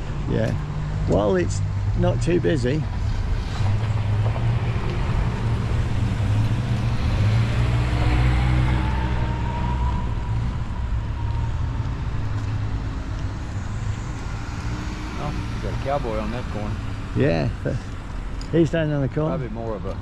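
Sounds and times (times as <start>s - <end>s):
vehicle passing with faint whine: 0.6s - 19.7s.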